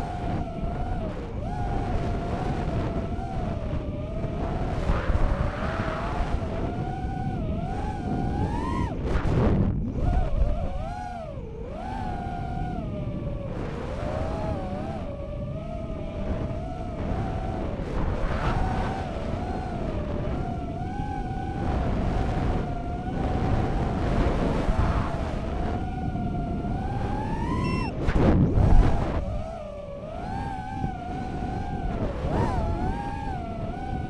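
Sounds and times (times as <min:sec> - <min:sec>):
drone motors buzzing whine: 0:00.0 - 0:34.0
wind rush: 0:00.0 - 0:34.0.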